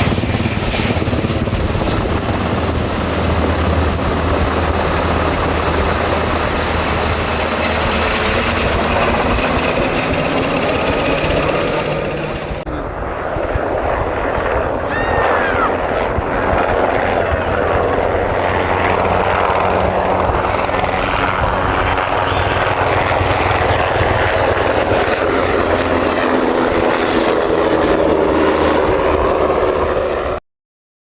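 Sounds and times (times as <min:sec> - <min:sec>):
helicopter rotor and engine noise: 0:00.0 - 0:30.4.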